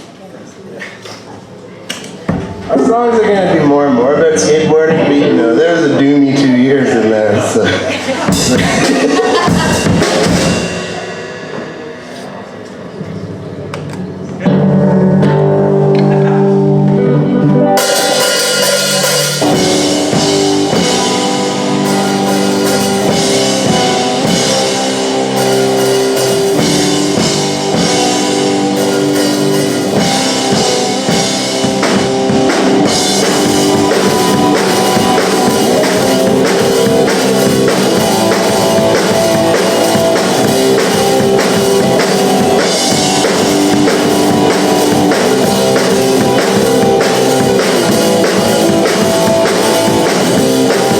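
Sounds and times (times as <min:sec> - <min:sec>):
drum kit: 0:01.9 - 0:03.6, 0:07.8 - 0:50.9
electric guitars: 0:04.4 - 0:50.9.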